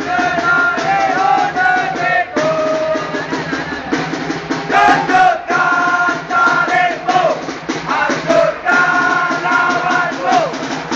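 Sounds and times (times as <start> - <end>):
crowd chanting in unison: 0.0 - 10.6
drums beating: 0.0 - 10.9.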